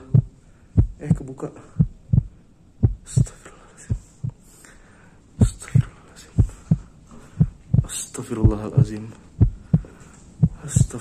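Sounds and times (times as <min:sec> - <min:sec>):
heartbeat thumps: 0:00.0 - 0:04.4, 0:05.4 - 0:11.0.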